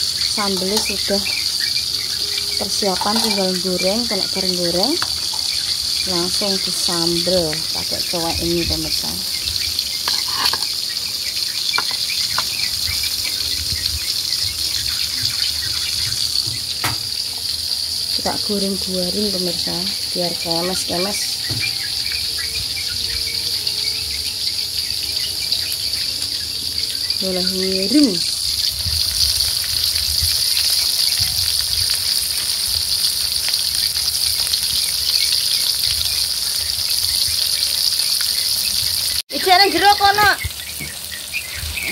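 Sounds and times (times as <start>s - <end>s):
fish sizzling in hot oil: 0.0s - 41.9s
oil popping and crackling: 0.0s - 41.9s.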